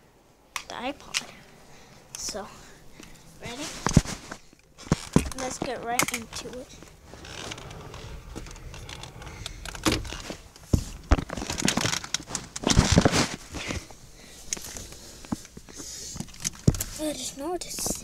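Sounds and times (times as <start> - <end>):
clothes rustling and crinkling: 0.2 - 18.0.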